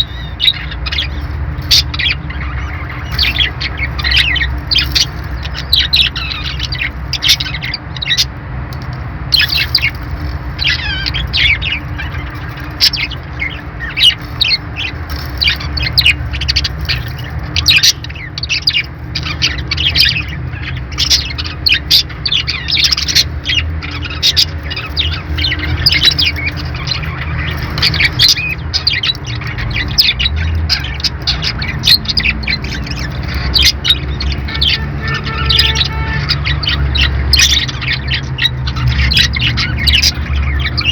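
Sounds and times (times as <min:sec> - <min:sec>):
parrots chirping and squawking: 0:00.0 - 0:40.9.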